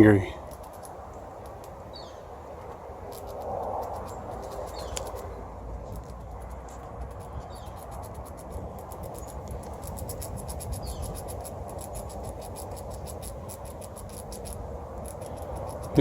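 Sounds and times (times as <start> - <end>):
squirrel gnawing food: 0.0 - 16.0
steady background hiss: 0.0 - 16.0.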